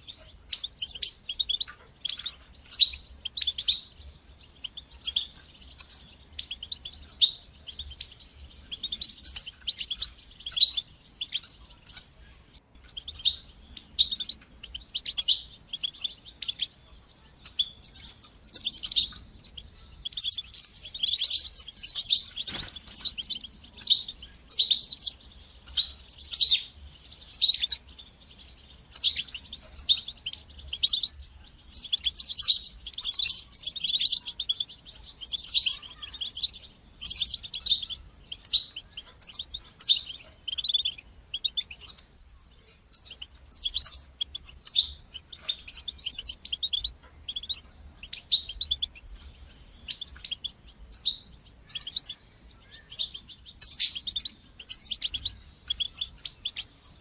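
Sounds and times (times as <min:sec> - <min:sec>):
finch singing and twittering: 0:00.0 - 0:57.0.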